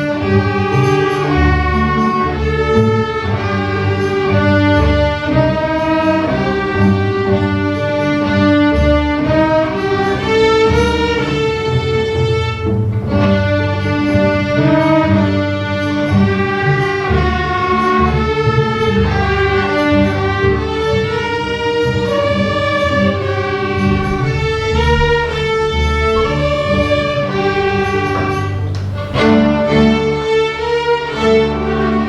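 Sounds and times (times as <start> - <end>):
string orchestra playing: 0.0 - 32.0.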